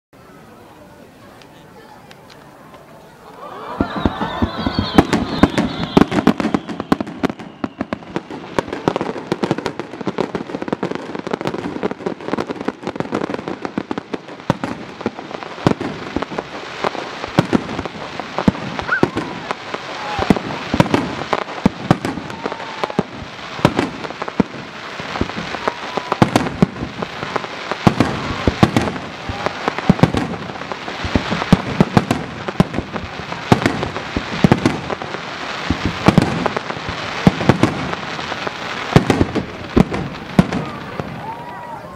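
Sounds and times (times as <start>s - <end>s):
fireworks bangs and crackles: 0.2s - 41.9s.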